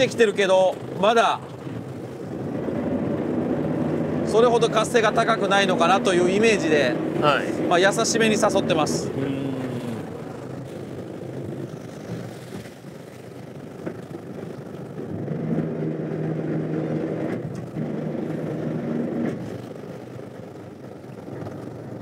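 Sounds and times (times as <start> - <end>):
steady motor drone: 0.0 - 21.9
boat engine running: 0.0 - 22.0
sea noise: 0.0 - 22.0
wind: 0.0 - 22.0.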